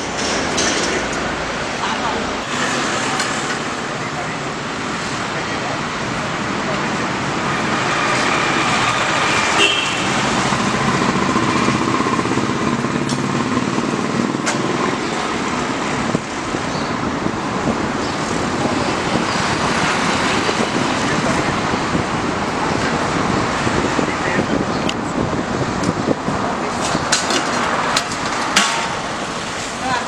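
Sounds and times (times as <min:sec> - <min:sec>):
roadside traffic noise: 0:00.0 - 0:30.0.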